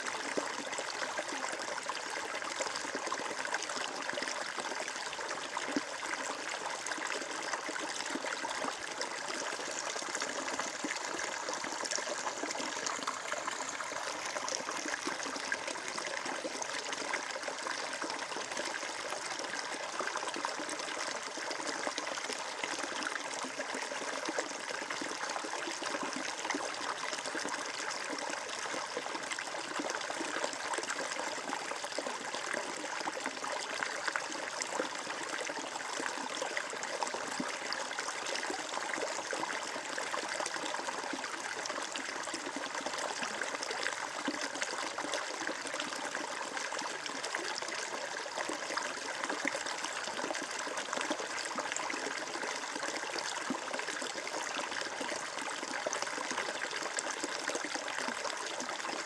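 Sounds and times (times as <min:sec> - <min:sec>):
stream water trickling over stones: 0:00.0 - 0:59.0.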